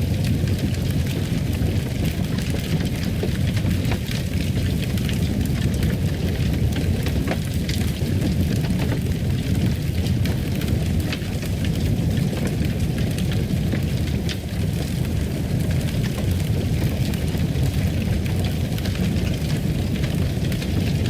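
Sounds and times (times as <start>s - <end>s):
fire crackles and pops: 0.0s - 21.0s
fire low rumble: 0.0s - 21.0s.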